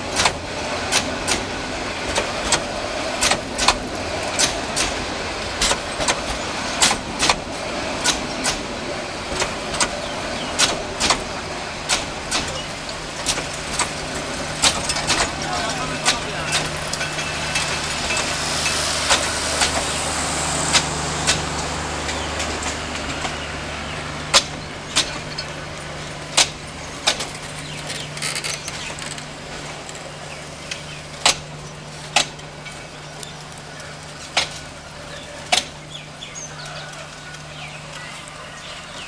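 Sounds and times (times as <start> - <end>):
passenger train rumbling past: 0.0 - 39.0
wheels clacking over rail joints: 0.0 - 39.0.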